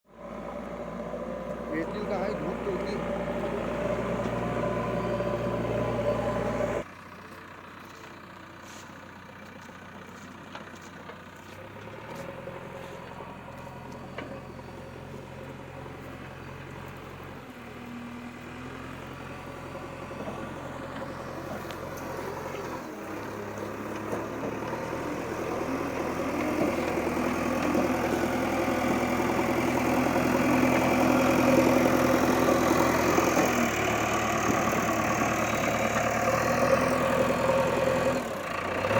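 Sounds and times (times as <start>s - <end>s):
vehicle engine running: 0.1s - 38.9s.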